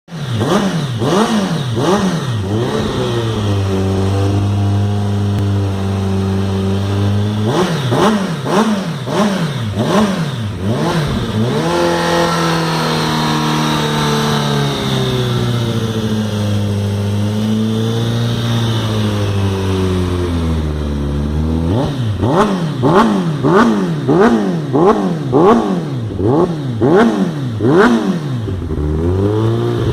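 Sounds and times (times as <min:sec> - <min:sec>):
motorcycle engine revving and idling: 0:00.1 - 0:29.9.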